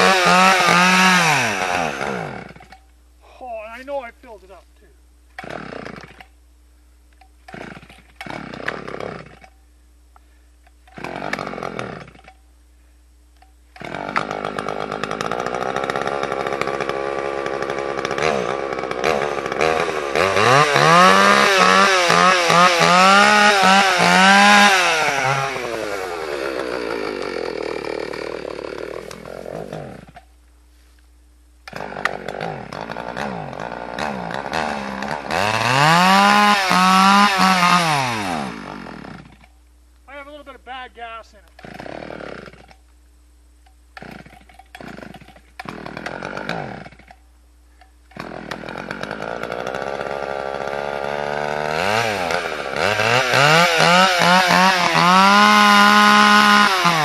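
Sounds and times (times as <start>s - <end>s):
chainsaw starting and revving: 0.0s - 2.8s, 5.3s - 6.4s, 7.4s - 9.6s, 10.8s - 12.4s, 13.7s - 30.3s, 31.6s - 39.6s, 41.5s - 42.8s, 44.0s - 47.2s, 48.1s - 57.0s.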